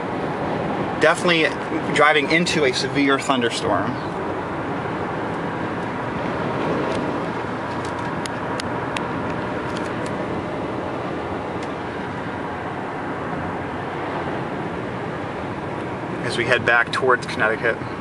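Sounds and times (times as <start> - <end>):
road and wind noise inside car: 0.0 - 18.0.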